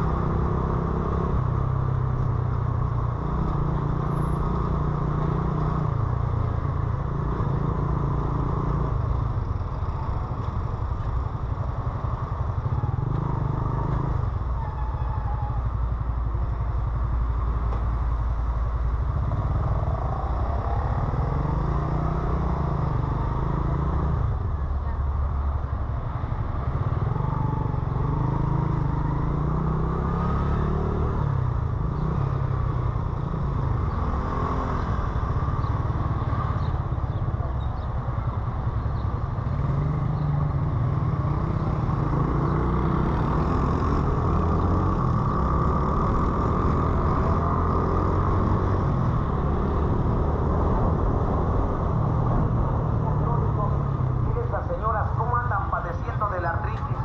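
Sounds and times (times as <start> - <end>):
motorcycle engine: 0.0 - 25.0, 26.2 - 56.1
background traffic: 0.0 - 57.0.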